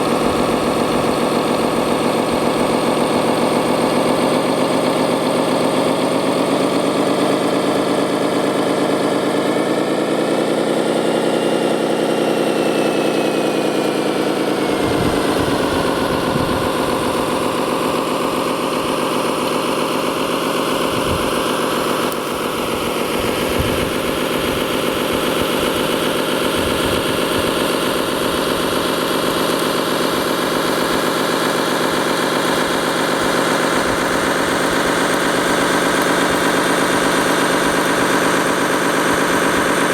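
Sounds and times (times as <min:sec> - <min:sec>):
model machine engine running: 0:00.0 - 0:39.9.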